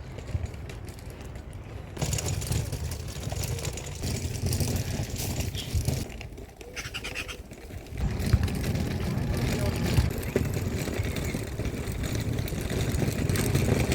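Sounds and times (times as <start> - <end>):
road traffic passing: 0.0 - 13.9.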